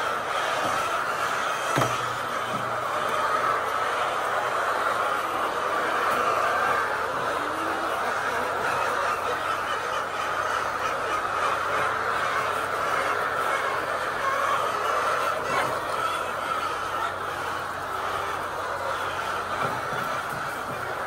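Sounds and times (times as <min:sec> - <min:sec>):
flock of chickens calling: 0:00.0 - 0:21.0.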